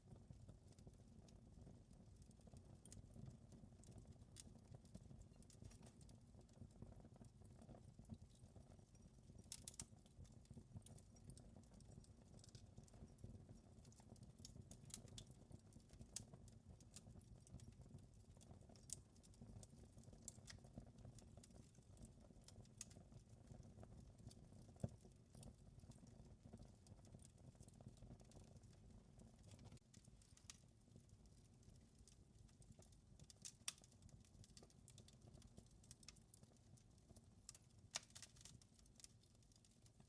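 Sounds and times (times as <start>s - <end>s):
wood fire crackling and popping: 0.1s - 40.0s.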